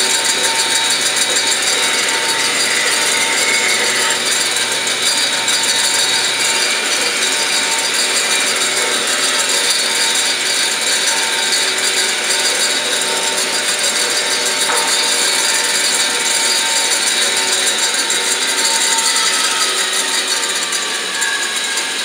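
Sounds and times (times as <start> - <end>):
bandsaw cutting wood: 0.0 - 22.0.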